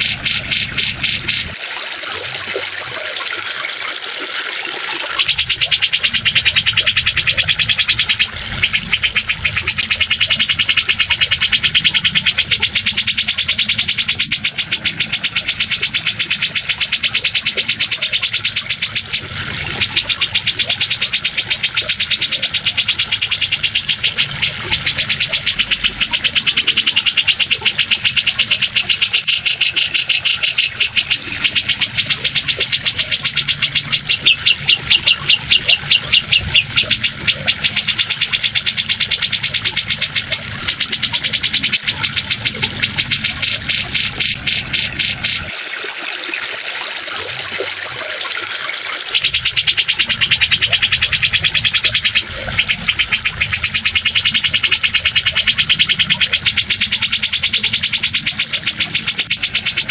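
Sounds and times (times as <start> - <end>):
bird chattering: 0.0 - 1.6, 5.2 - 45.5, 49.2 - 59.9
running water: 0.0 - 59.9.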